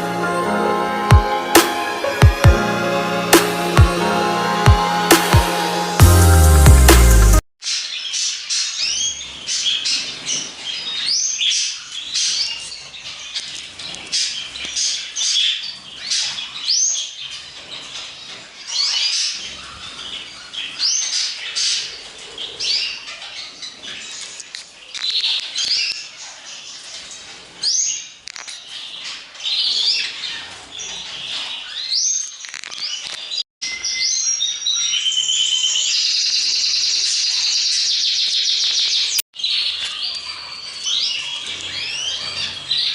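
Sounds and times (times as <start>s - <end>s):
caged birds chirping: 6.1s - 42.9s.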